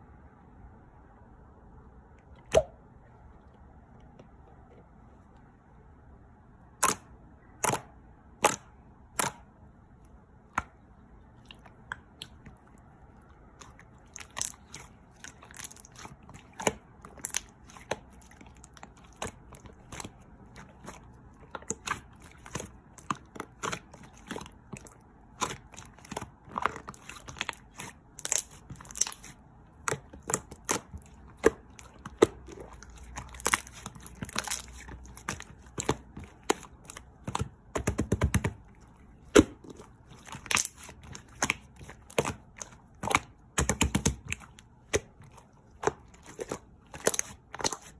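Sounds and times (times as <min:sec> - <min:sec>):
slime squishing: 0:06.6 - 0:47.9.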